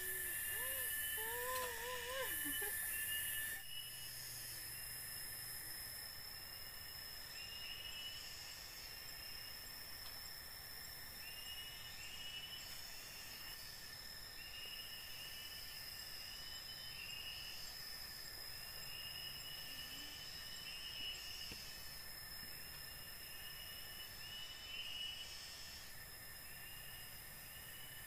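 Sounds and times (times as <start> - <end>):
high-pitched insect drone: 0.0 - 28.0
insect chirping calls: 0.0 - 28.0.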